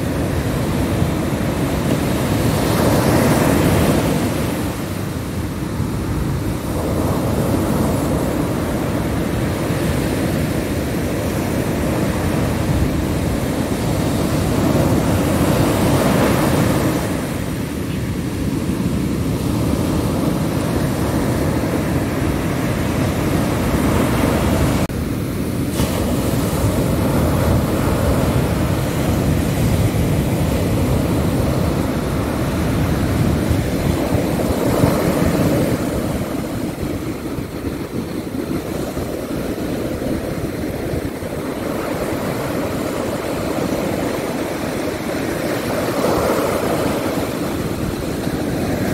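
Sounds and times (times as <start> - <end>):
ocean waves breaking: 0.0 - 48.9.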